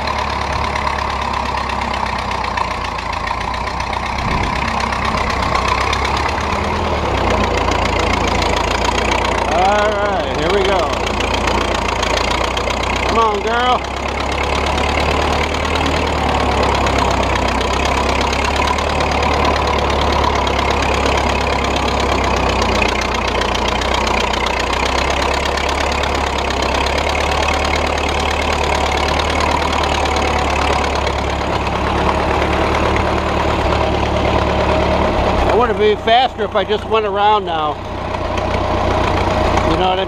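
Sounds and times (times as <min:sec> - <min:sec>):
tractor engine running under load: 0:00.0 - 0:40.0.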